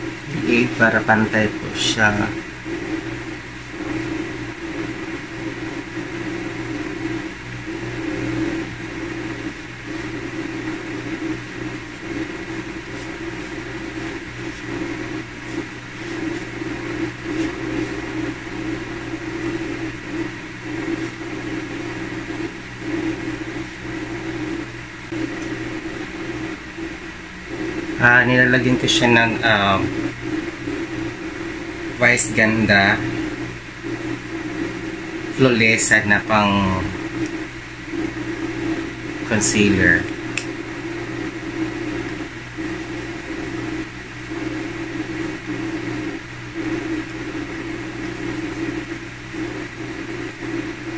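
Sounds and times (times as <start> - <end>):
motor humming: 0.0 - 50.9.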